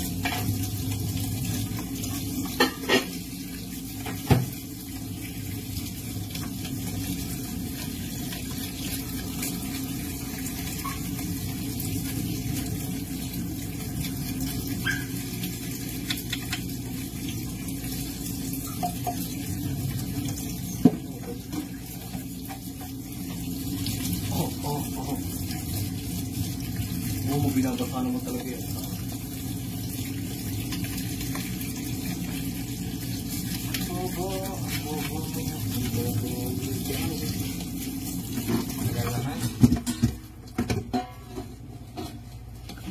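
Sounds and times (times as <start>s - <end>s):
tap water running into sink: 0.0s - 42.9s.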